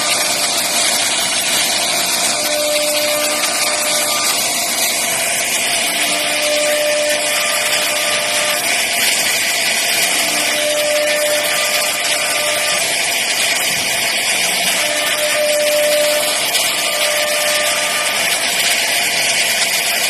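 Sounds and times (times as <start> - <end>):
router bit hissing through wood: 0.0 - 20.0.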